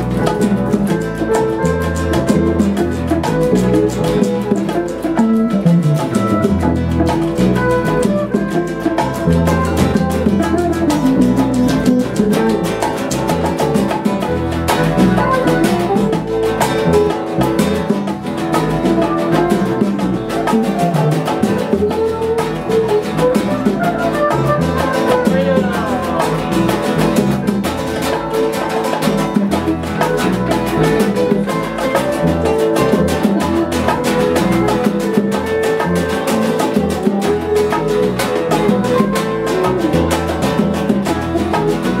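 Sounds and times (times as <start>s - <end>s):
bongos: 0.0s - 42.0s
electric bass: 0.0s - 42.0s
guitars playing: 0.0s - 42.0s.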